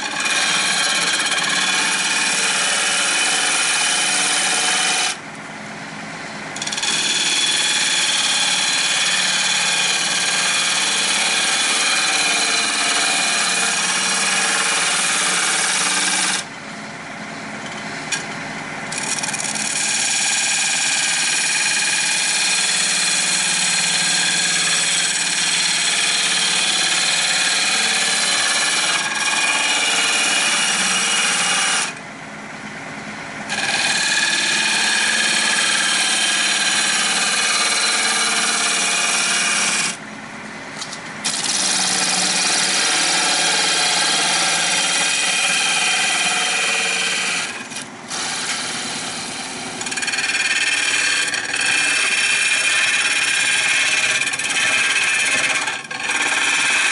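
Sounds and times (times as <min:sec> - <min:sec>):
lathe motor whine: 0:00.0 - 0:16.6, 0:18.9 - 0:56.9.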